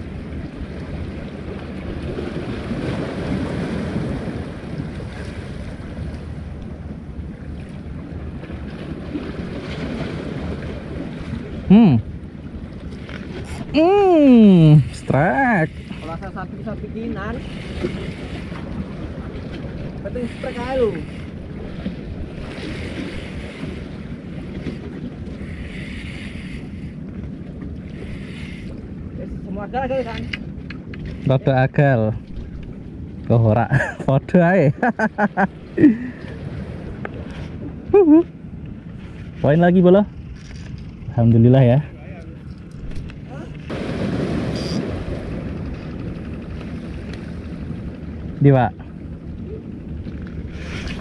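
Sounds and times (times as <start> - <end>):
sea waves washing against breakwater: 0.0 - 51.0.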